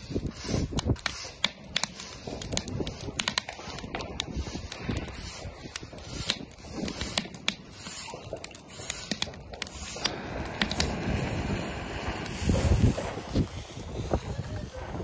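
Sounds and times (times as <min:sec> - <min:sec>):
fireworks popping and crackling: 0:00.0 - 0:15.0
wind on microphone: 0:00.0 - 0:15.0.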